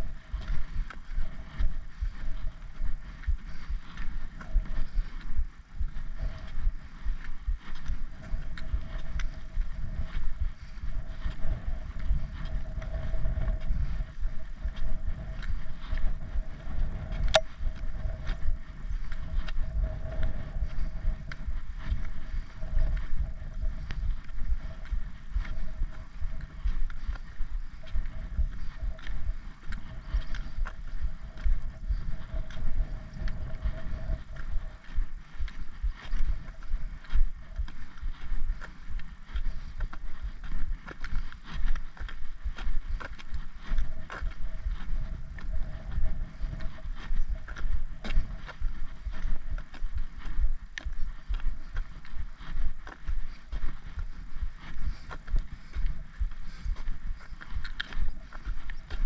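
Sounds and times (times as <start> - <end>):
faint steady hum: 0.0 - 59.0
footstep clicks on tarmac: 0.0 - 59.0
wind rumble on microphone: 0.0 - 59.0.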